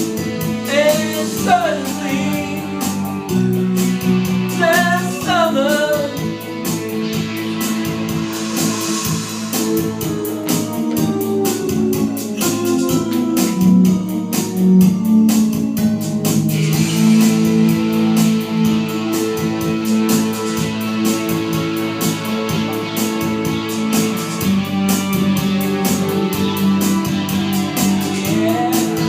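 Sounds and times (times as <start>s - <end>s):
guitar: 0.0s - 29.0s
organ-like keyboard: 0.0s - 29.0s
steady drum beat: 0.0s - 29.0s.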